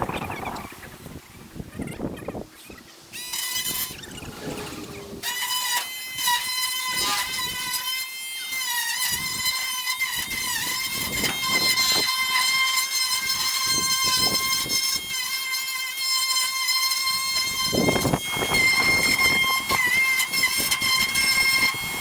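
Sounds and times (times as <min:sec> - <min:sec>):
power tool motor whine: 0:03.1 - 0:22.0.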